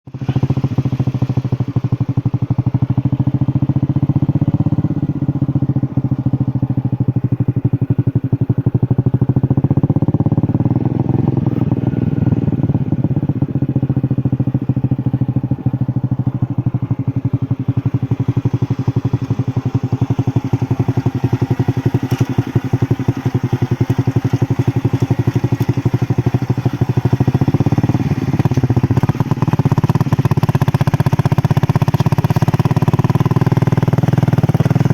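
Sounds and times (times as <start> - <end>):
engine running with rapid pulsing: 0.1 - 34.9.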